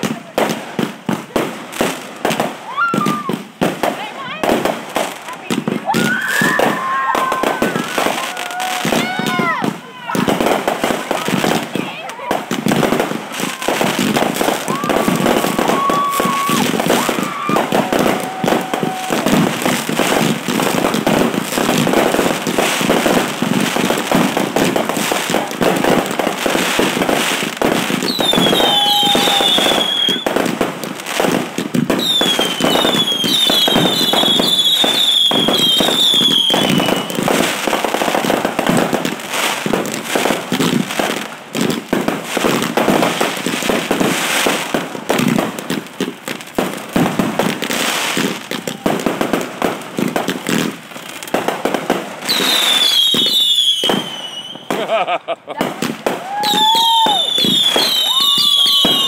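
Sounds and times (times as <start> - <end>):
fireworks bangs and crackles: 0.0 - 59.0
whistling fireworks: 0.0 - 59.0.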